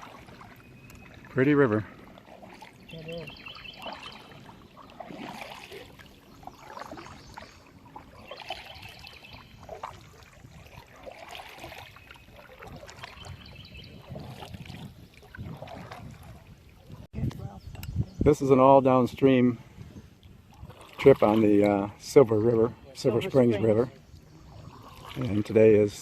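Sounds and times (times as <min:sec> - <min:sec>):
paddle dipping through water: 0:00.0 - 0:17.2, 0:19.4 - 0:26.0
water splashes and drips: 0:00.0 - 0:17.9, 0:20.2 - 0:22.2, 0:23.2 - 0:26.0.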